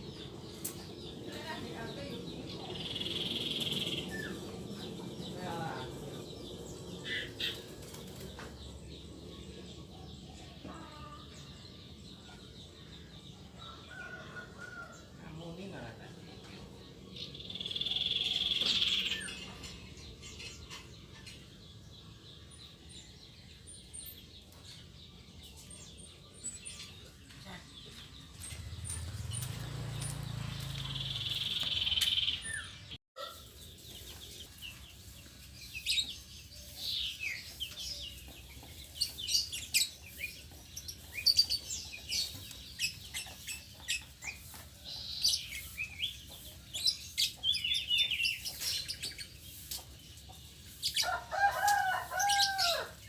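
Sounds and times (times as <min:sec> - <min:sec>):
caged birds chirping: 0:00.0 - 0:53.0.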